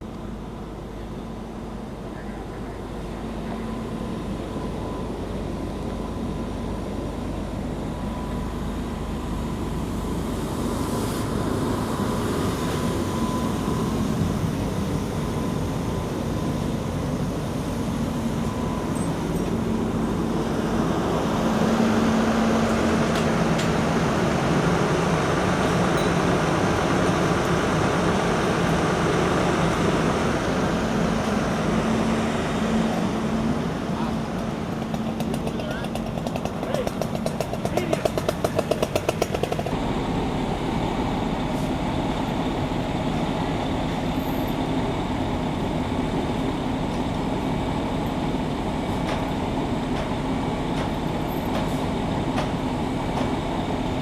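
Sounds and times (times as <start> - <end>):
engine rumble with hum: 0.0 - 54.0.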